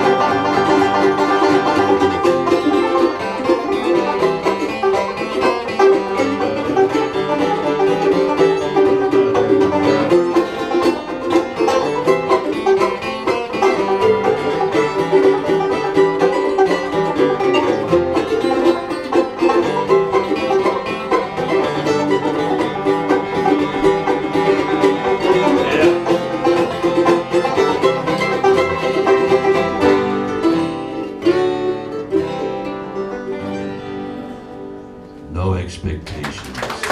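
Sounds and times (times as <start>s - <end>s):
banjo picking: 0.0s - 35.2s
fiddle: 0.0s - 35.2s
strummed acoustic guitar: 0.0s - 35.7s.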